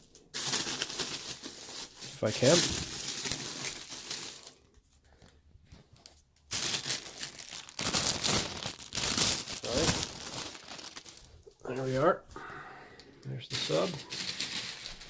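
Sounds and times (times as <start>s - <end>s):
plastic wrapping crinkling: 0.0s - 12.1s, 13.0s - 15.0s.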